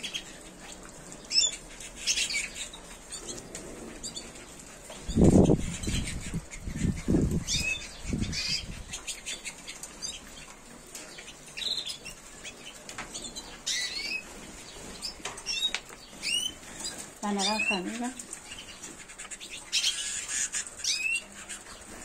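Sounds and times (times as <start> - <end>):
birds fluttering wings: 0.0 - 22.0.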